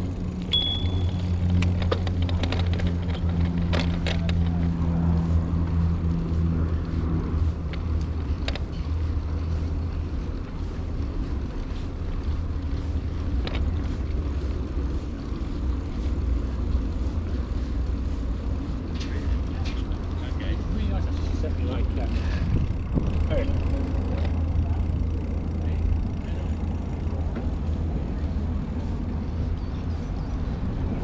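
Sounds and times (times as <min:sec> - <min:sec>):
bicycle clicks and rattles: 0:00.0 - 0:31.0
bicycle rumble: 0:00.0 - 0:31.0.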